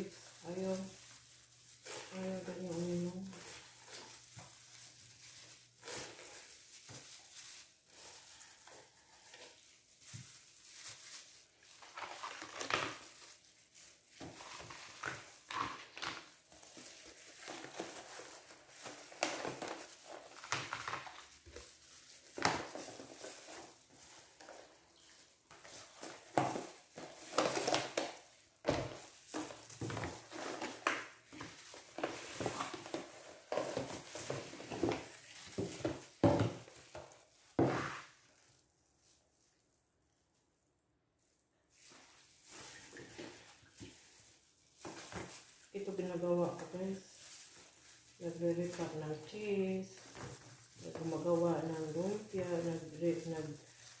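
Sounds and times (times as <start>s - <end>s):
plastic tubs and gloves crinkling: 0.0s - 54.0s.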